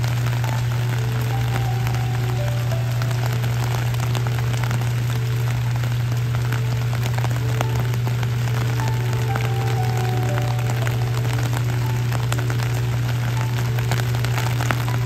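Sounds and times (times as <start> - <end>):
low hum: 0.0 - 15.0
rain on stone paving and grass: 0.0 - 15.0.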